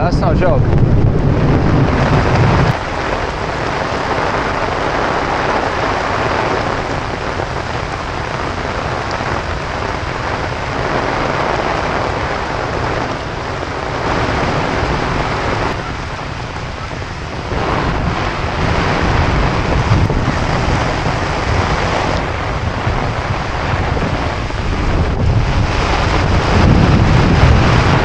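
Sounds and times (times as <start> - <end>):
rain on an umbrella: 0.8 - 28.0
rain on wet pavement: 0.8 - 28.0.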